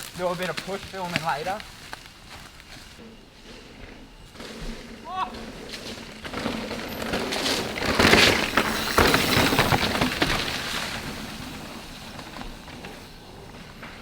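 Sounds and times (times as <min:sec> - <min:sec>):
bike rattling: 0:00.0 - 0:14.0
bike tyres crunching on dirt: 0:00.0 - 0:14.0.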